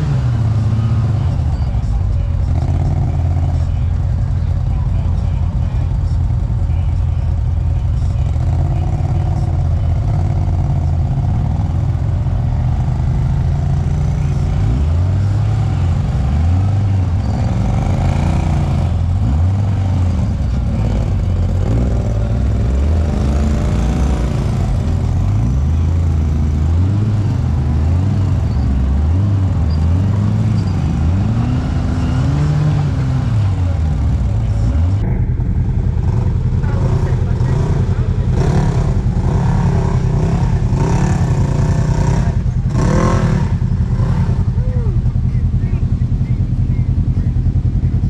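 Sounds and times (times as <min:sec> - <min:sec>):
utility vehicle engine revving: 0:00.0 - 0:48.0.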